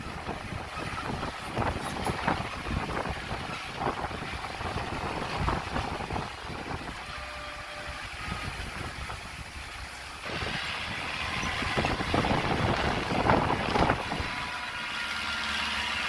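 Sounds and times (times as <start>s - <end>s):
heavy diesel engine running unevenly: 0.0s - 16.0s.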